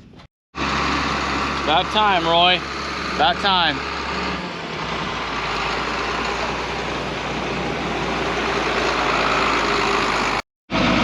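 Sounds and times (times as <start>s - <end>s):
tractor engine idling: 0.6s - 11.0s.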